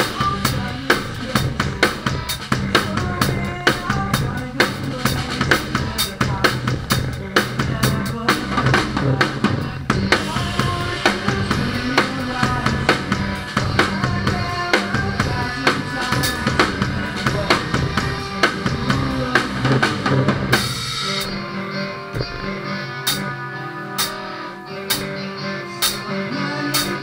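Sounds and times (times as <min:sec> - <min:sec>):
drum kit hits: 0:00.0 - 0:21.5, 0:22.1 - 0:23.4
rock band playing: 0:00.0 - 0:27.0.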